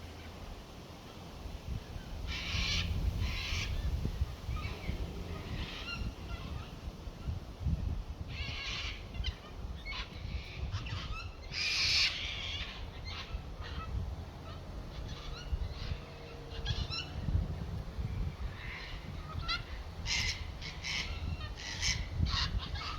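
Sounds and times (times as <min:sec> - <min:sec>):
birds calling: 0:00.0 - 0:22.9
wind rumble on microphone: 0:00.0 - 0:22.9.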